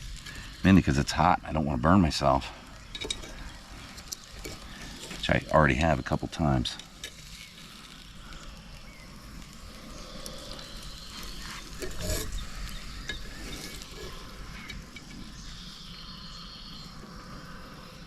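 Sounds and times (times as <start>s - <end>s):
sausages and bacon sizzling: 0.0s - 17.8s.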